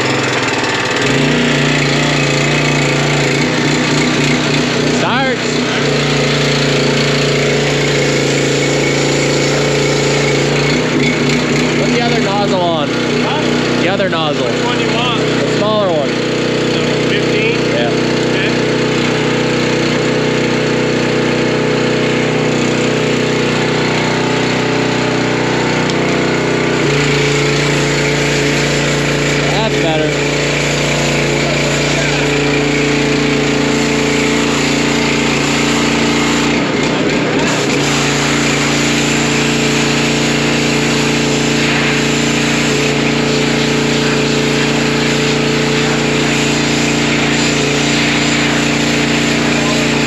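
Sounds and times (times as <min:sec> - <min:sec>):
pressure washer engine running: 0:00.0 - 0:50.0
water jet hissing: 0:00.0 - 0:50.0.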